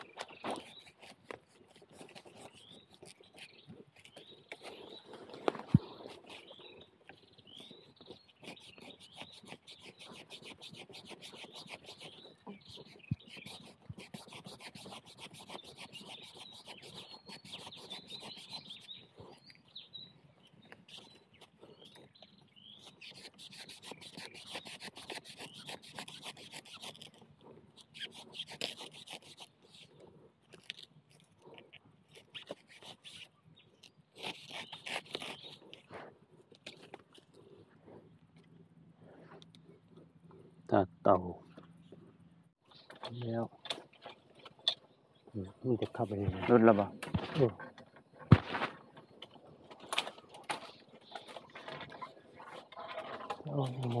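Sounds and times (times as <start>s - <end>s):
birds chirping: 0.0s - 30.4s, 31.4s - 54.0s.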